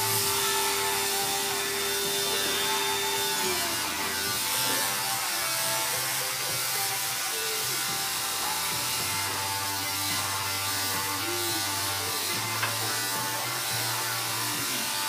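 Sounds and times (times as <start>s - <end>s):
electric clippers buzzing: 0.0s - 15.0s.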